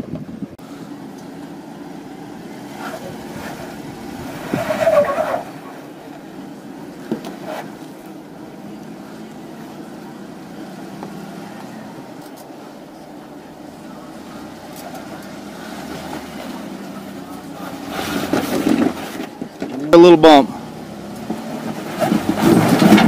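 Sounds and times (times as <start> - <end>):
car engine running low speed: 0.0 - 23.0.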